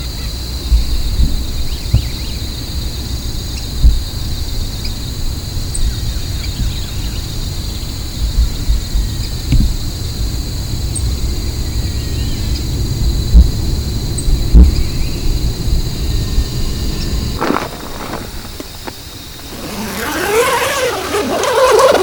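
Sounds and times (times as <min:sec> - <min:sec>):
wind rumble on microphone: 0:00.0 - 0:21.0
insects trilling: 0:00.0 - 0:22.0.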